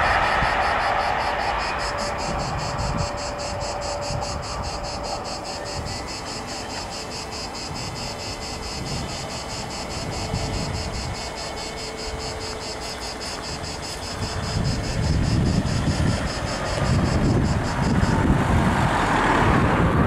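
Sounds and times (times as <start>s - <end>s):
faint steady hum: 0.0s - 18.4s
insects chirping: 0.0s - 19.6s
low wind rumble: 0.0s - 20.0s.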